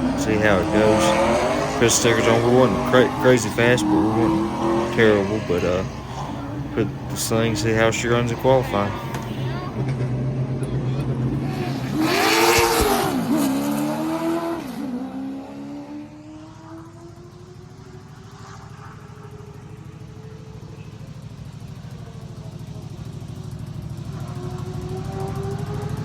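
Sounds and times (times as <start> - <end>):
race car engine running hard: 0.0 - 26.0.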